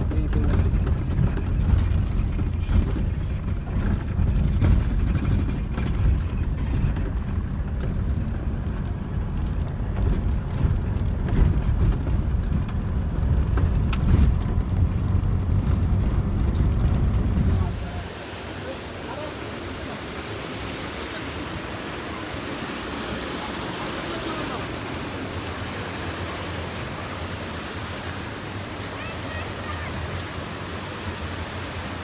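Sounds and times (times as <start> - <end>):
vehicle rumble in motion: 0.0 - 32.0.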